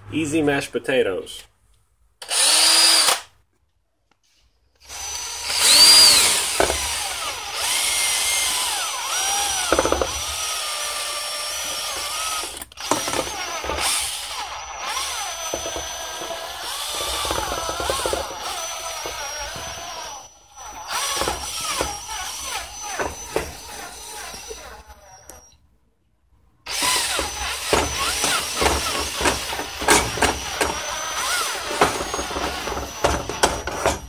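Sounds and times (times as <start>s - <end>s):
power drill motor whine: 2.2s - 3.3s, 4.8s - 25.6s, 26.7s - 34.0s.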